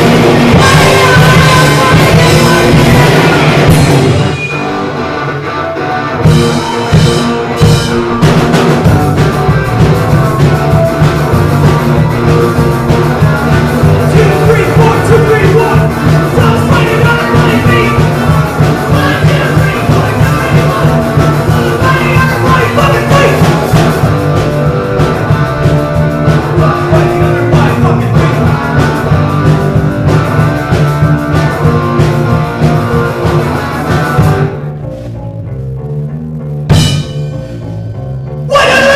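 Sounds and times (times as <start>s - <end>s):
bass guitar: 0.0s - 38.9s
distorted electric guitars: 0.0s - 38.9s
driving drum kit: 0.0s - 38.9s.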